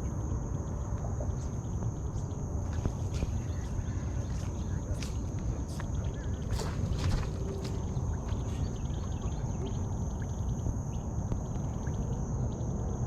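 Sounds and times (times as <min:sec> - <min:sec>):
insects calling high tone: 0:00.0 - 0:13.0
low outdoor rumble: 0:00.0 - 0:13.0.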